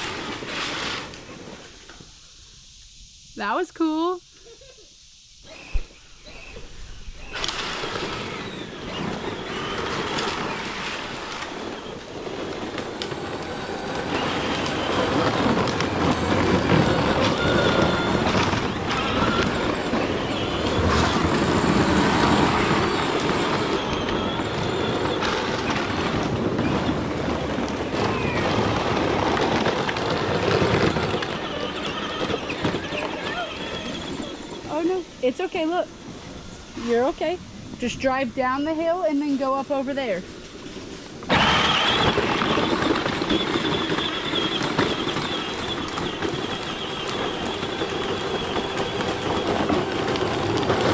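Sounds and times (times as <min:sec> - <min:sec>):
toy tractor wheels and motor rumbling: 0:00.0 - 0:03.8, 0:04.4 - 0:50.9.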